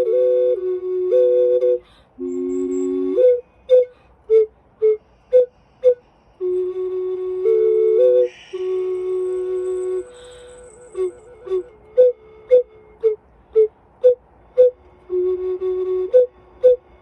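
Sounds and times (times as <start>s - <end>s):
ocarina melody: 0.0s - 17.0s.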